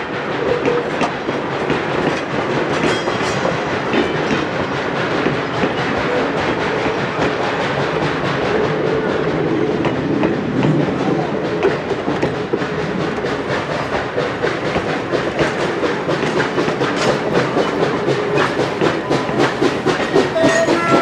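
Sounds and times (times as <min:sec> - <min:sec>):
train wheels rumbling on track: 0:00.0 - 0:21.0
wheels clicking over rail joints: 0:00.3 - 0:21.0.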